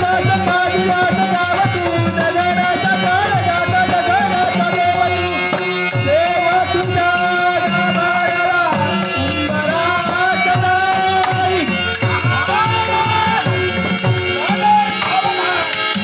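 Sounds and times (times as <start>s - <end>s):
small hand percussion ticking: 0.0s - 16.0s
wavering held melody: 0.0s - 16.0s
drum strokes: 1.6s - 16.0s.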